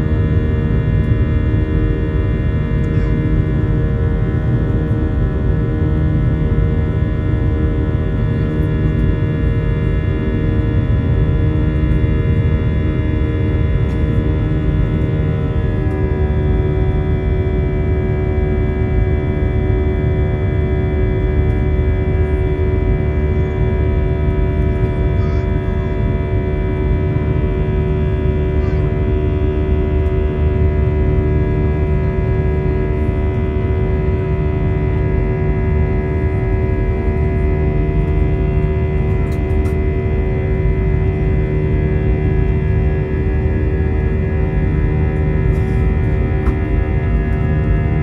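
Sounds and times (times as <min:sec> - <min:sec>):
airplane cabin jet engine drone: 0:00.0 - 0:48.0
humming tones: 0:00.0 - 0:48.0.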